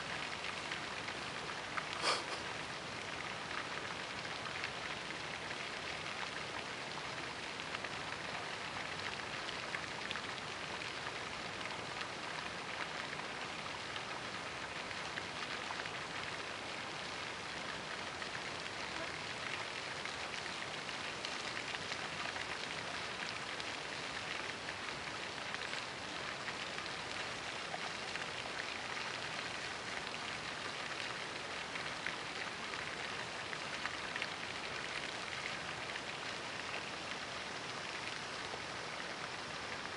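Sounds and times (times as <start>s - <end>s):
fountain water splashing on pond: 0.0s - 39.9s.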